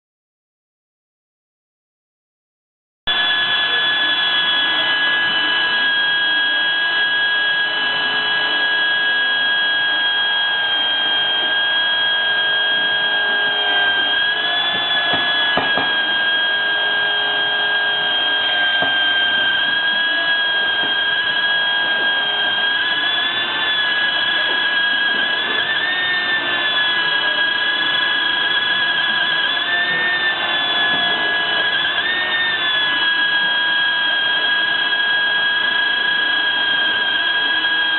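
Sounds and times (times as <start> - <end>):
air belt sander whining: 3.1 - 37.9.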